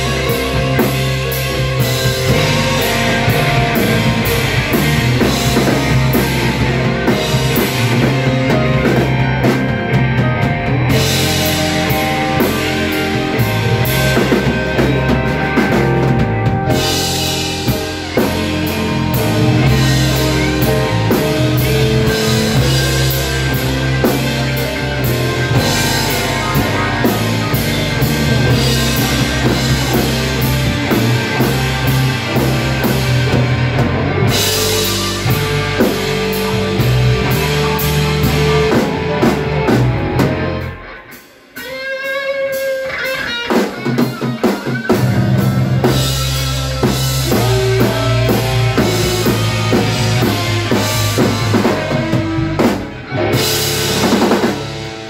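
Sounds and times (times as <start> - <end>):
blues-rock band playing: 0.0 - 55.0.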